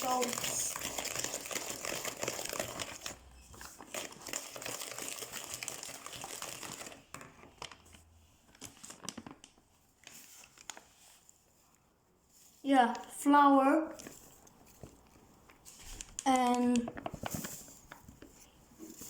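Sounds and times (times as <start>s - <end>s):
crinkling and rustling handling: 0.0s - 13.2s, 13.8s - 19.0s.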